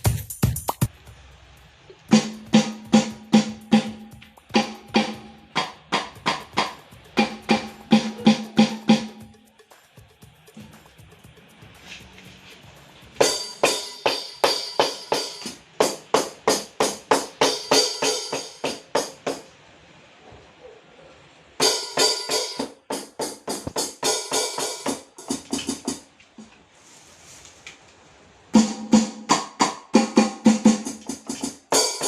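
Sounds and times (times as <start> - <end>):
electronic drum strikes: 0.0 - 19.4, 21.6 - 26.1, 28.6 - 32.0.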